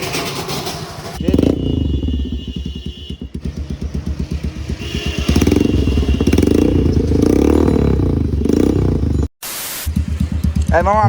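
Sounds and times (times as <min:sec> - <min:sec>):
motorcycle engine idling and revving: 0:00.0 - 0:09.3, 0:09.9 - 0:11.0.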